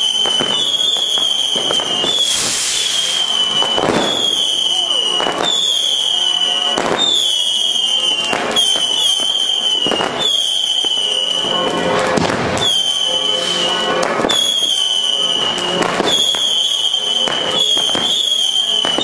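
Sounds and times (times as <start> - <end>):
firecrackers exploding: 0.0 - 19.0
whistling fireworks shrieking: 0.0 - 19.0.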